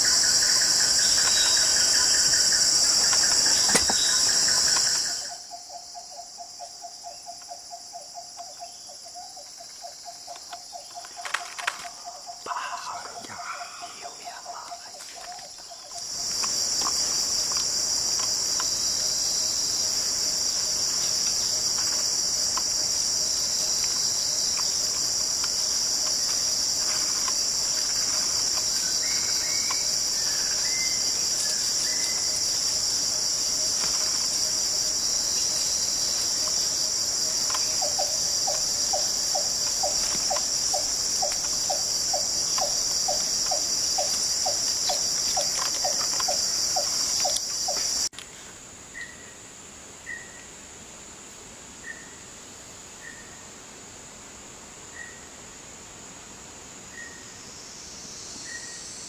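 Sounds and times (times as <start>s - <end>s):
high-pitched insect drone: 0.0s - 48.1s.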